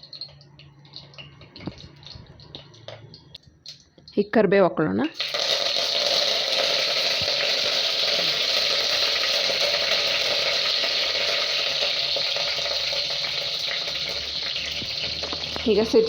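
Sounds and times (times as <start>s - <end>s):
seeds sizzling in hot oil: 0.0s - 4.2s, 5.1s - 16.0s.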